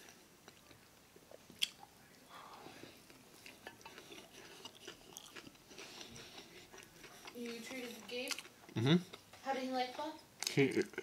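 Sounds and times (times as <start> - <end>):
quiet chewing: 0.0 - 11.0.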